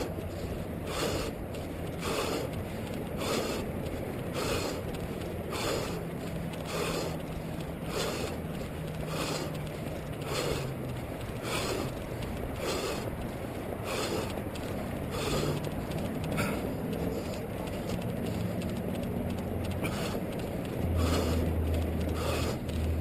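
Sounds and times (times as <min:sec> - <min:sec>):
person breathing hard: 0:00.0 - 0:18.8, 0:19.7 - 0:23.0
rumbling noise of running: 0:00.0 - 0:23.0.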